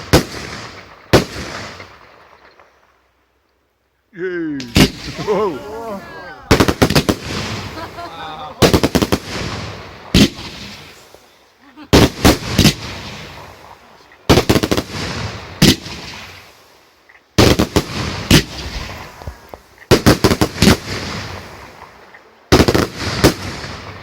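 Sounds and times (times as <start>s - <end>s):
fireworks bursting with loud bangs: 0.0s - 3.0s, 4.6s - 24.0s
fireworks crackle and rumbling echo: 0.0s - 3.6s, 4.6s - 24.0s.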